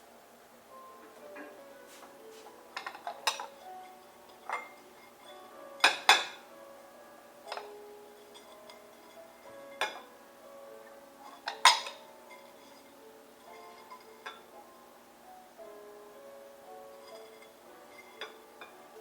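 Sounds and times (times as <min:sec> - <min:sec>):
soft background music: 0:00.0 - 0:19.0
dishes and utensils clinking: 0:01.0 - 0:06.5, 0:07.4 - 0:14.6, 0:16.3 - 0:19.0.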